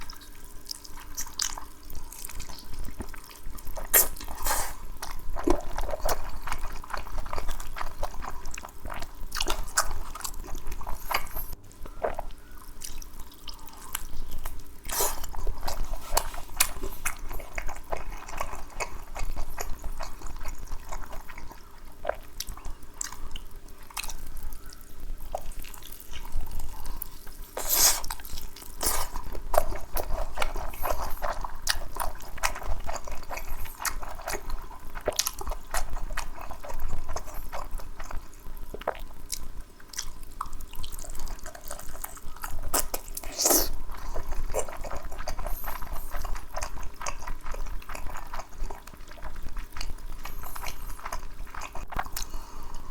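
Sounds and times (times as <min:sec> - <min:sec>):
wet chewing and biting: 0:00.0 - 0:52.9.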